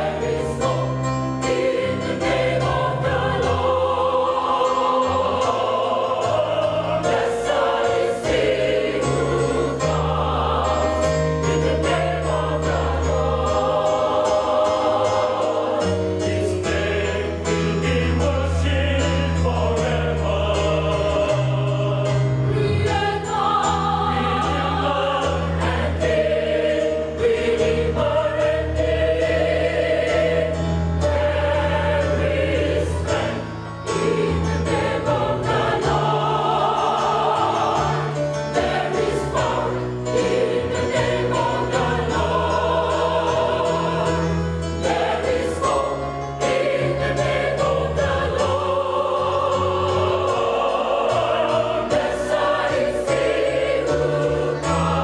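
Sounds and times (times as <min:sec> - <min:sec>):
mixed choir singing in harmony: 0:00.0 - 0:55.0.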